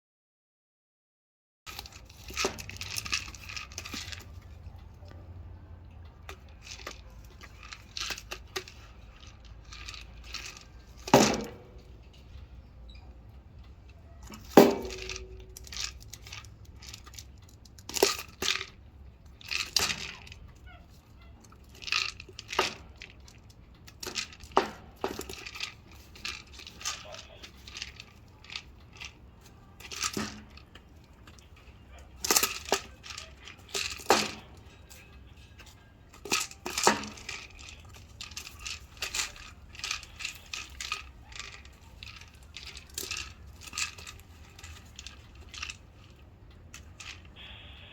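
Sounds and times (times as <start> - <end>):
knocks and clinks of toy: 1.7 - 47.6.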